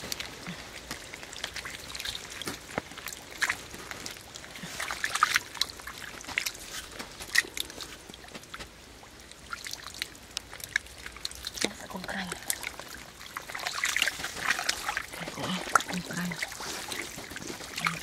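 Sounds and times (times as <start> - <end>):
wet mud squelching: 0.0 - 18.0.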